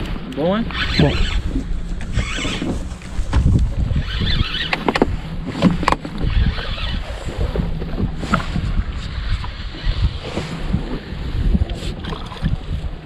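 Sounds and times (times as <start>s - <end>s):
boat engine low hum: 0.0s - 13.0s
water noise: 0.0s - 13.0s
wind noise: 0.0s - 13.0s.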